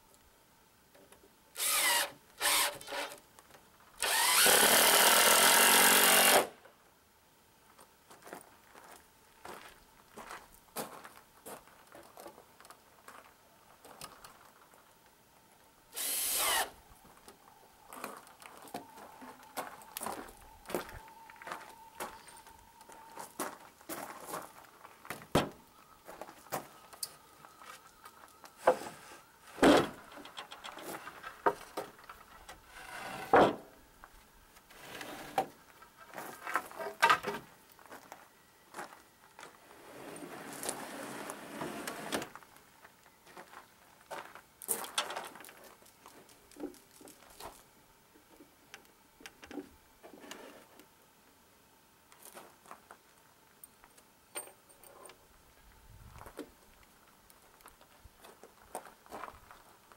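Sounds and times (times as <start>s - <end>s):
even hissing noise: 0.0s - 59.9s.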